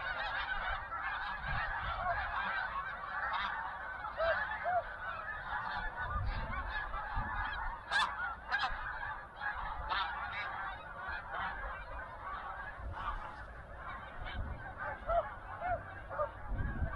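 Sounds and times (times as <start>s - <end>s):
flock of geese honking: 0.0s - 16.9s.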